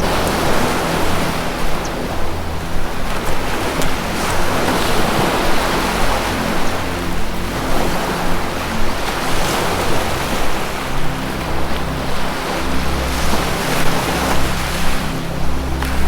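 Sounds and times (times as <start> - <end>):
ambient music: 0.0 - 16.0
ocean surf washing: 0.0 - 16.0.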